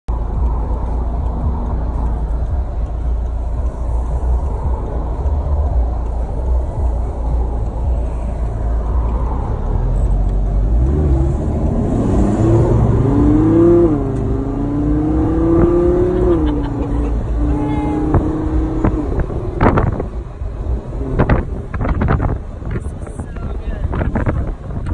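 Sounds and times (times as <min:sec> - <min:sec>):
car engine accelerating: 0:00.1 - 0:24.9
road noise: 0:00.1 - 0:24.9.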